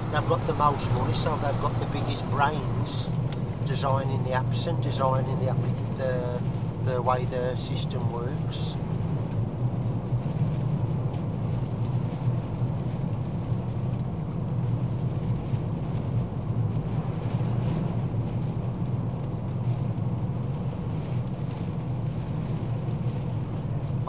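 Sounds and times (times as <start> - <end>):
car road and engine drone: 0.0 - 24.0.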